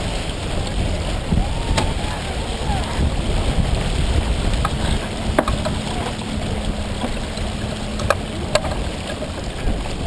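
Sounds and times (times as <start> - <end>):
water rushing along hull: 0.0 - 10.0
wind rumble on microphone: 0.0 - 10.0.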